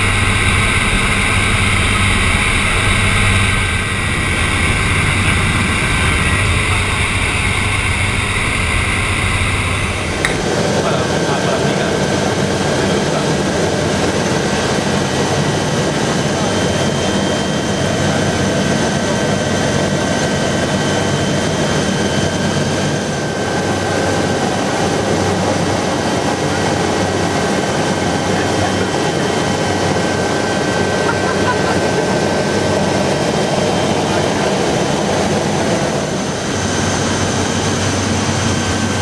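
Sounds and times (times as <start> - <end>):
rotor drone: 0.0 - 39.0
turbine engine whine: 0.0 - 39.0.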